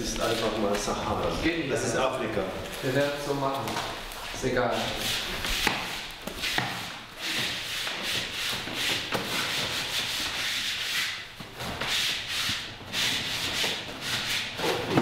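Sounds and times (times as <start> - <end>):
canvas scraping on concrete floor: 0.0 - 15.0.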